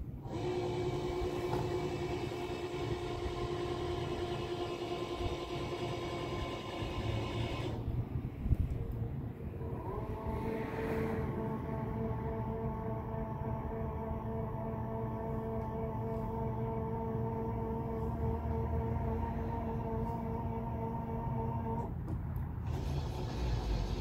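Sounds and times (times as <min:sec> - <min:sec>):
electric motor whining: 0:00.2 - 0:07.9, 0:09.6 - 0:21.9, 0:22.6 - 0:24.0.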